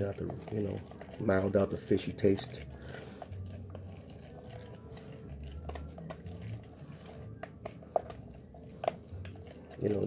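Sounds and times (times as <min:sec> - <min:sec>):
spoon stirring wet mix squelching: 0:00.0 - 0:10.0.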